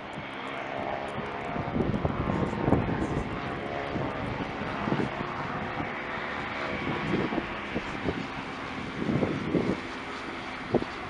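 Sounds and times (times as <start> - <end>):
airplane engine running: 0.0 - 11.0
wind buffeting microphone: 0.0 - 11.0.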